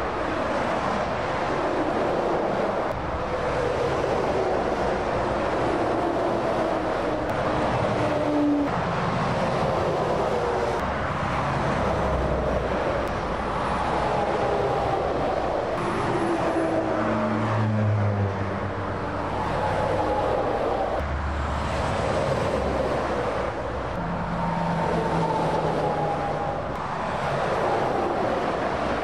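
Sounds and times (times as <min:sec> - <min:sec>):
lorries passing at speed: 0:00.0 - 0:29.0.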